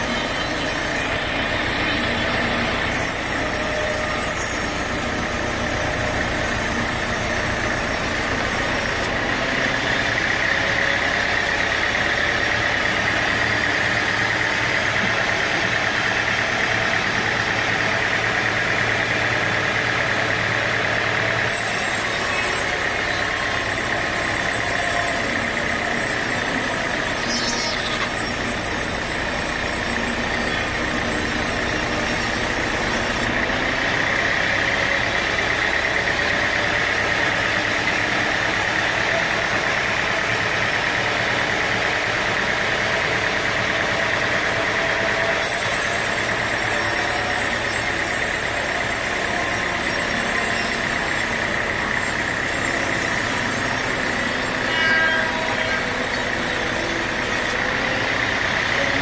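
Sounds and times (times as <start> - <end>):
sawmill machinery whining: 0.0 - 59.0.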